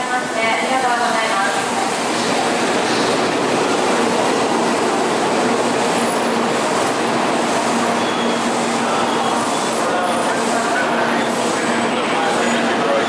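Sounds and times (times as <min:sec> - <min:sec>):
train rushing noise: 0:00.0 - 0:13.0.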